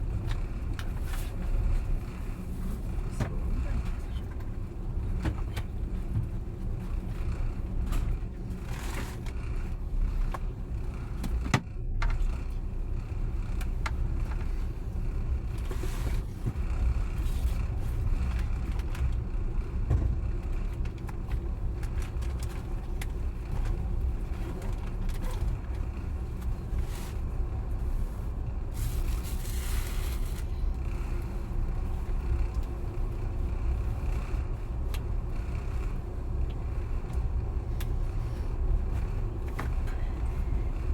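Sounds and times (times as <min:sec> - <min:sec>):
train wheels rumbling inside carriage: 0:00.0 - 0:40.9.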